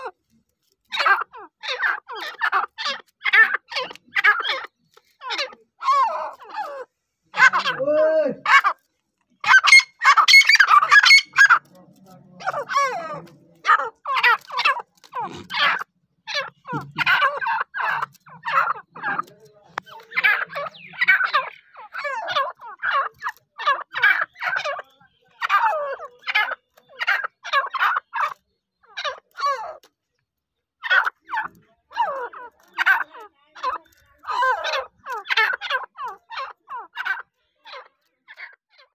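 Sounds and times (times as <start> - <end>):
birds harsh repeated calls: 0.0 - 38.9.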